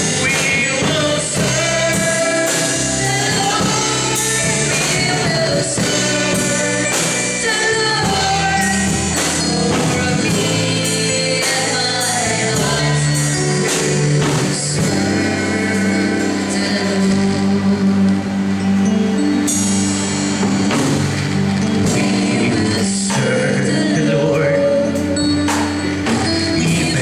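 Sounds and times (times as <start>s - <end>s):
man singing into a microphone: 0.0s - 18.3s, 21.9s - 25.4s, 26.2s - 27.0s
live band with drums and cymbals: 0.0s - 27.0s.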